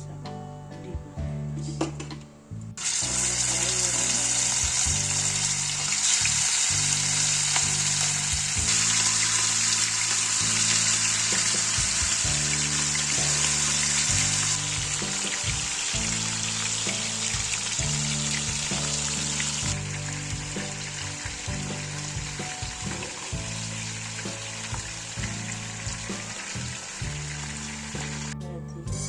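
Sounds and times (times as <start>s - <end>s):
background music: 0.0s - 29.0s
food sizzling in hot oil: 2.8s - 28.4s.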